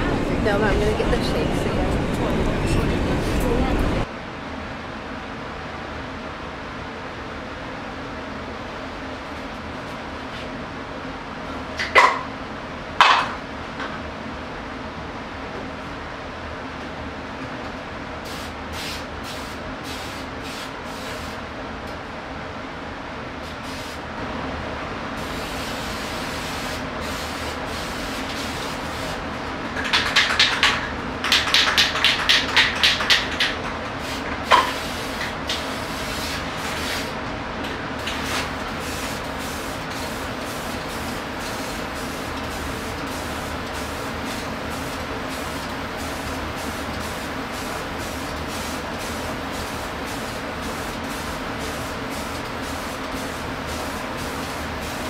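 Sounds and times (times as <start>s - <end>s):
room hum: 0.0s - 55.0s.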